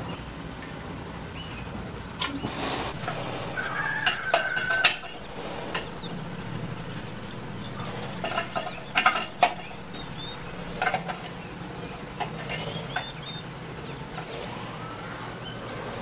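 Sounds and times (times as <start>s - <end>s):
birds chirping: 1.3s - 16.0s.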